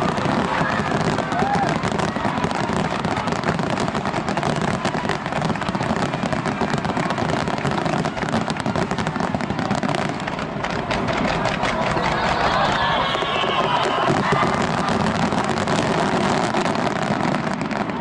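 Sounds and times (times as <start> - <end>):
fireworks crackling and bursting: 0.0 - 18.0.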